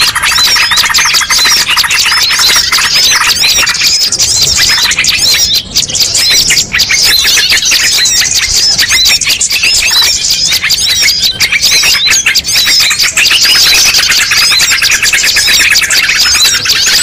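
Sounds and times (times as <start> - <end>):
chorus of songbirds chirping: 0.0 - 17.0.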